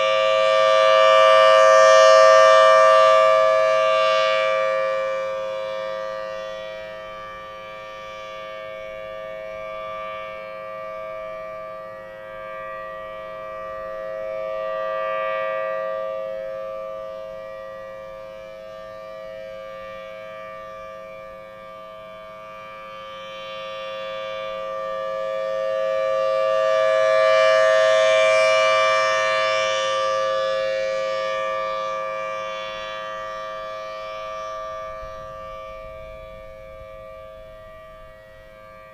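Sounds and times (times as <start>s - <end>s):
two-tone warning siren: 0.0s - 38.9s.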